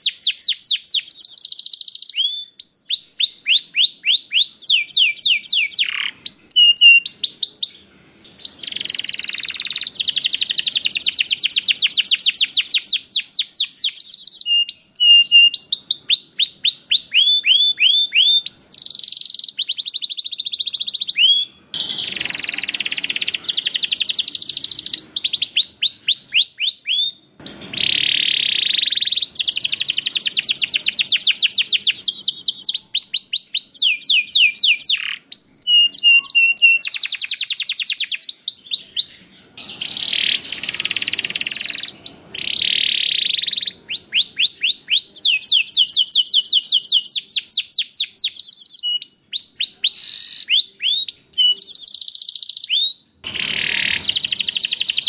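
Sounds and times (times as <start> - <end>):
canary singing with trills: 0.0 - 55.0.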